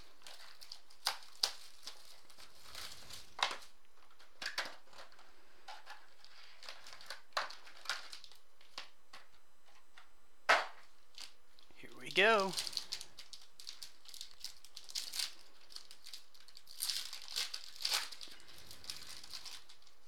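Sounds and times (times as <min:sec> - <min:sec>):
plastic wrap crinkling and tearing: 0:00.0 - 0:08.8, 0:12.5 - 0:20.0.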